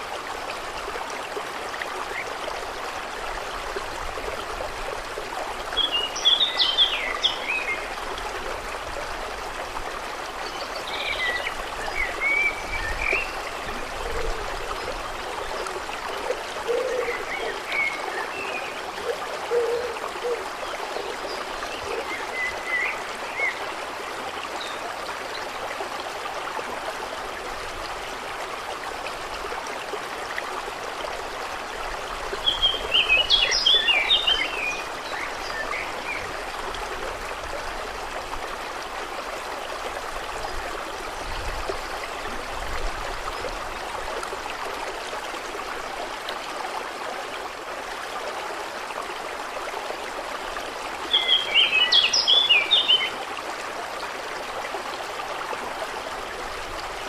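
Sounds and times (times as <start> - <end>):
water lapping and trickling: 0.0 - 57.0.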